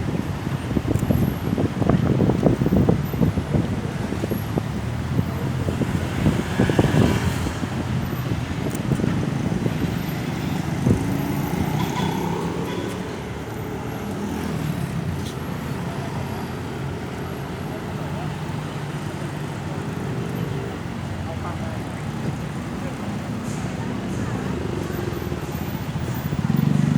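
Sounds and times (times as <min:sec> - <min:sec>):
vehicles passing by: 0:00.0 - 0:26.9.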